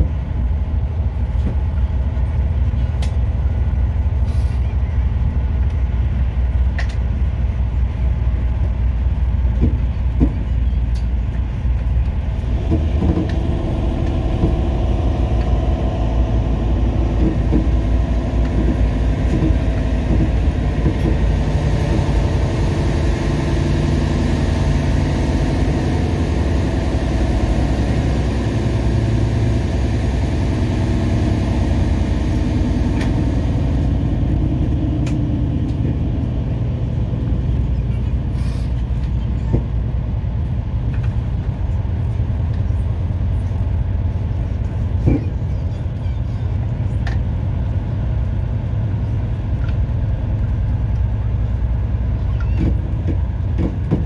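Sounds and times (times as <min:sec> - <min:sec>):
hum: 0:00.0 - 0:54.0
train wheels rumbling on track: 0:00.0 - 0:54.0.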